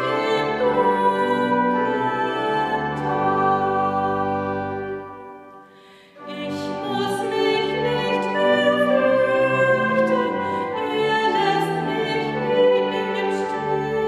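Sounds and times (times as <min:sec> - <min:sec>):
woman singing a hymn: 0:00.0 - 0:05.0, 0:06.2 - 0:14.0.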